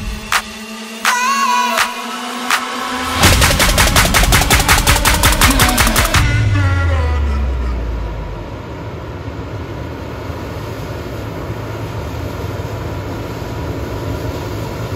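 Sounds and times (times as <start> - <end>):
combine harvester drone: 0.0 - 14.9.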